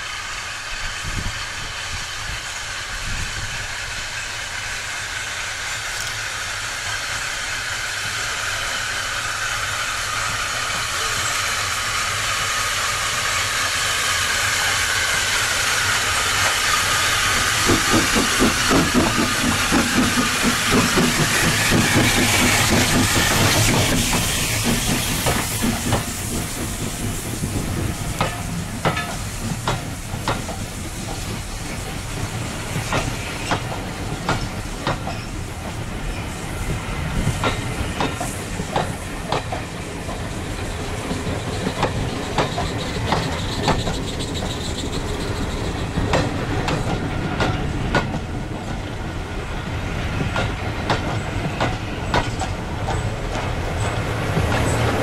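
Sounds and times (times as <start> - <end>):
steam hissing: 0.0 - 55.0
train wheels clicking over rail joints: 2.2 - 55.0.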